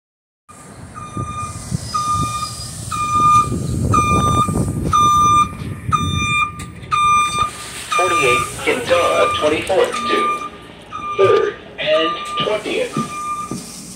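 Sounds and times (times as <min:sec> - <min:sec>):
low rumble of bus: 0:00.5 - 0:13.9
bus warning beeper: 0:00.6 - 0:13.8.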